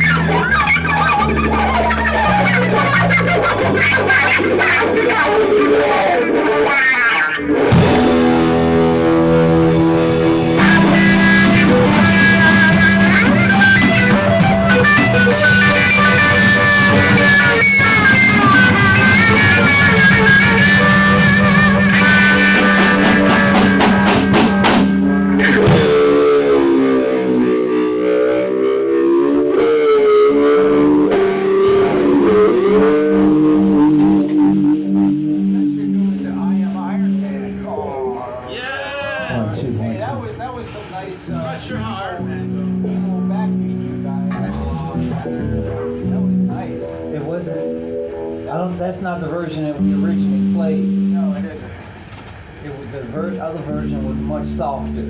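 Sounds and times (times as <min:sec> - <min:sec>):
held bass note: 0:00.0 - 0:05.8, 0:07.5 - 0:38.5, 0:41.3 - 0:51.8, 0:53.2 - 0:55.0
electric guitar lead with bent notes: 0:00.0 - 0:38.6, 0:41.3 - 0:52.6, 0:53.2 - 0:55.0
live band jamming: 0:00.0 - 0:55.0.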